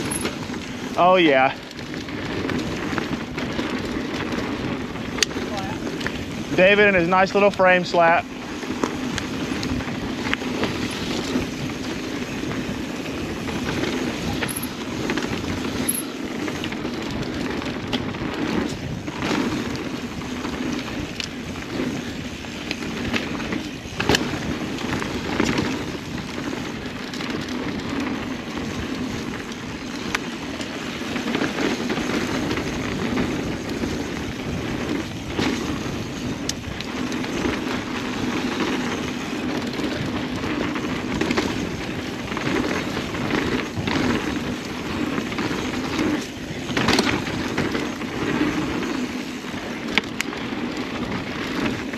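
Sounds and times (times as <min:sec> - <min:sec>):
bike rattling over bumps: 0:00.0 - 0:51.9
bike tyres on dirt trail: 0:00.0 - 0:51.9.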